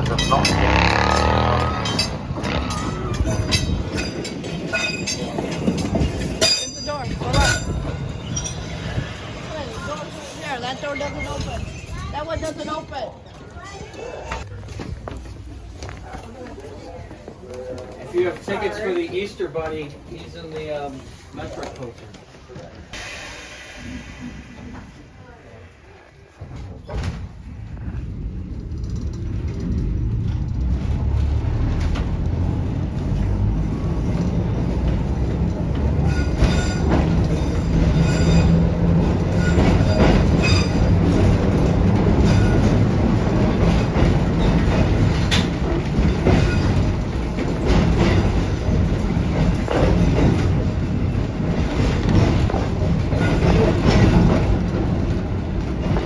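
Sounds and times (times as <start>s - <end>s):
electric trolley car running: 0.0s - 16.0s, 21.0s - 56.0s
wheels clicking over rail joints: 0.0s - 23.1s, 26.4s - 56.0s.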